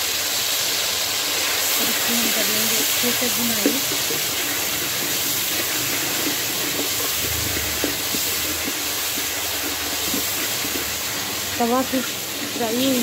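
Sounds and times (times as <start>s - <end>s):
masala sizzling in hot oil: 0.0s - 13.0s
small crackles: 1.6s - 13.0s.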